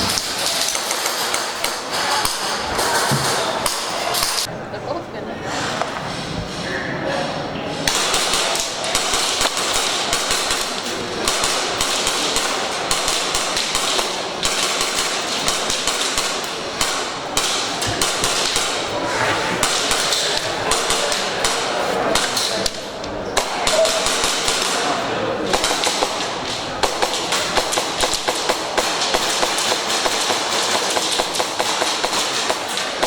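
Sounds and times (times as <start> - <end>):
airsoft guns firing rapidly: 0.0 - 4.5, 7.8 - 19.0, 19.6 - 33.0.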